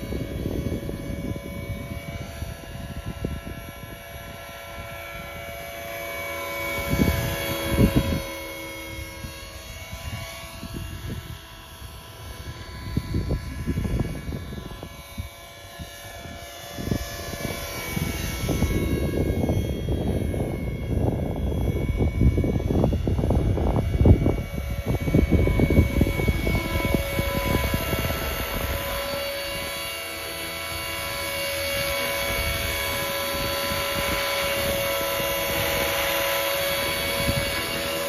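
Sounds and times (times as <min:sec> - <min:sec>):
rc helicopter motor whine: 0:00.0 - 0:38.0
wind on microphone: 0:00.0 - 0:38.0.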